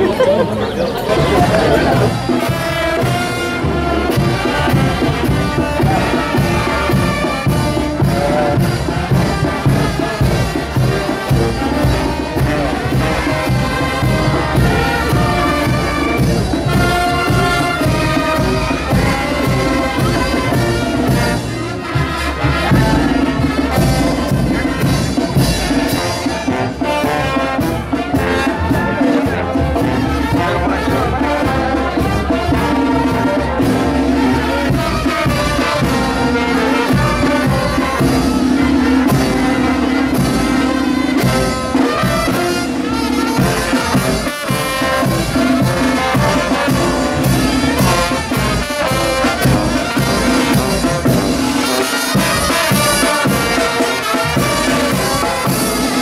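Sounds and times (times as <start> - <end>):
trumpets and trombones: 0.0 - 56.0
snare and bass drum beat: 1.2 - 56.0.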